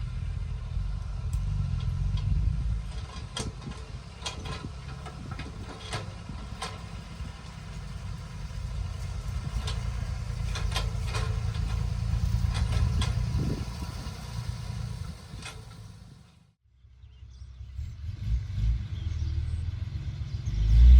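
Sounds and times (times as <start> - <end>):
diesel engine rumbling: 0.0 - 20.9.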